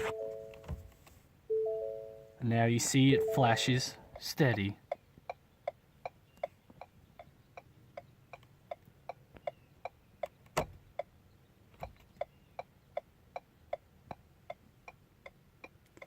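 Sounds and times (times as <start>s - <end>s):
turn signal ticking: 2.9s - 16.0s.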